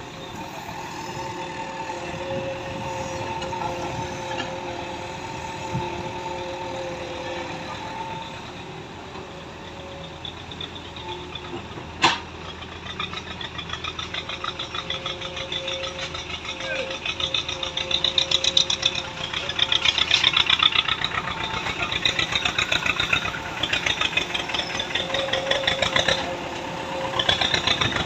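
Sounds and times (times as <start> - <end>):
digger diesel engine running: 0.0 - 28.0.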